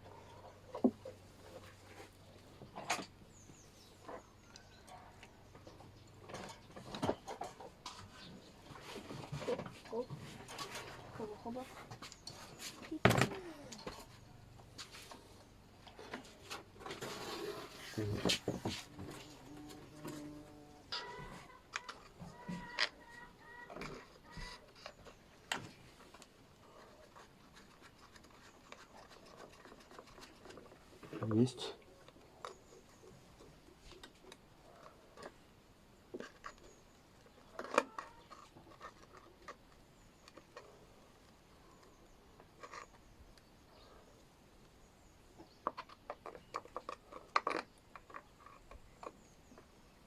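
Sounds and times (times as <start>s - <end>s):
light scraping and rubbing: 0.0s - 4.9s, 5.5s - 35.4s, 36.1s - 44.1s.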